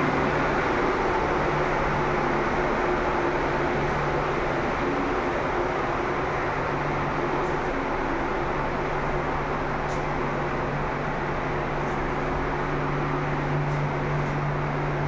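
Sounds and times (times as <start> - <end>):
ventilation fan running: 0.0 - 15.0.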